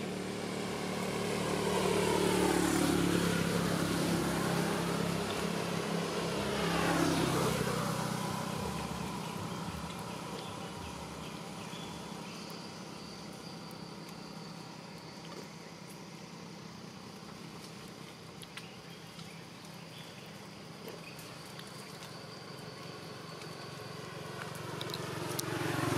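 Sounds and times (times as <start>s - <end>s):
vehicle engine passing by: 0.0s - 18.0s, 22.0s - 25.9s.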